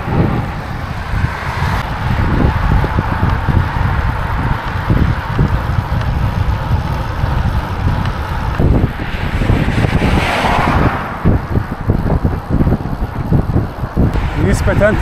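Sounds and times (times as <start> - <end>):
car passing with tyre noise: 0.0 - 13.0, 14.0 - 15.0
wind buffeting microphone: 0.0 - 15.0.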